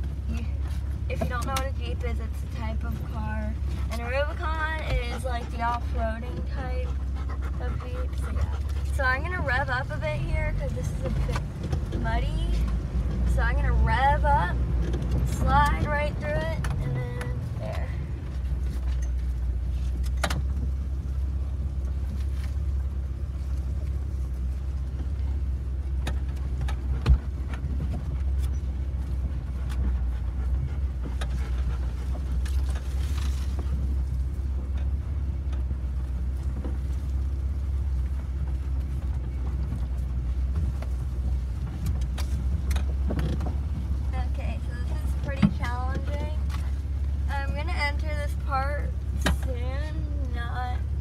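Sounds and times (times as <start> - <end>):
engine and drivetrain rumble: 0.0 - 51.0
light rattles and clicks: 0.0 - 51.0.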